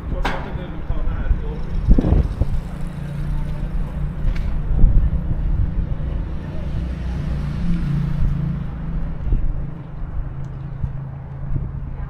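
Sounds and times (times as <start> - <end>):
city street noise: 0.0 - 12.0
vehicle engine drone: 0.6 - 12.0.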